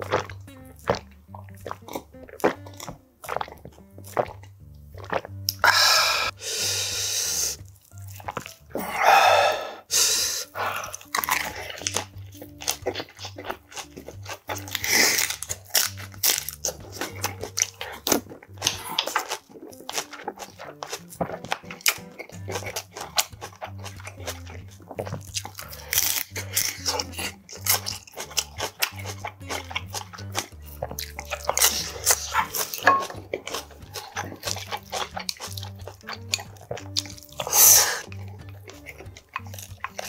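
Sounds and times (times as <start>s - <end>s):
man chewing crunchy leaves: 0.0s - 40.0s.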